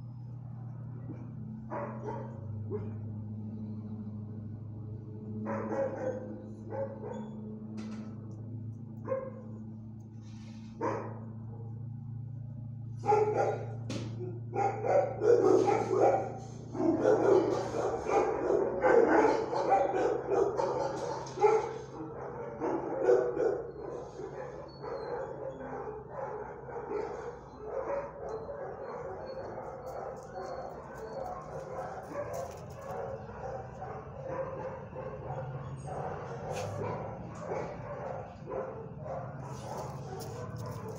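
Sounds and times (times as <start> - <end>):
dogs barking: 1.0 - 3.2, 5.3 - 8.2, 8.8 - 9.7, 10.6 - 40.9.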